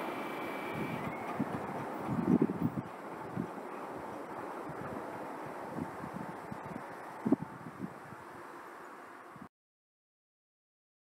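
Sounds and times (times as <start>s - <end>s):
faint outdoor background noise: 0.0s - 9.5s.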